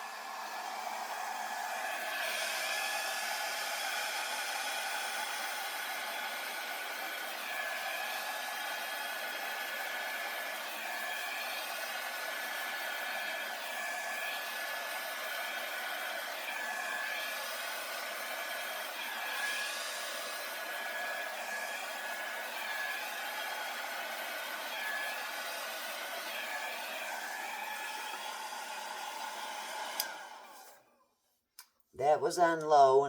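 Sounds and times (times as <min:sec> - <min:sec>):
hair dryer blowing: 0:00.0 - 0:30.9.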